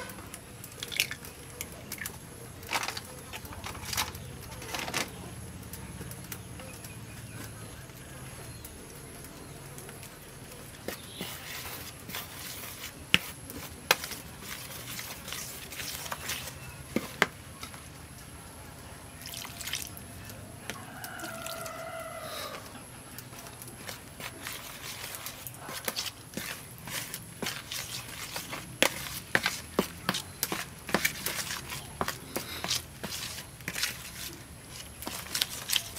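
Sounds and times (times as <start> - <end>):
spoon stirring batter in bowl: 0.0 - 35.9.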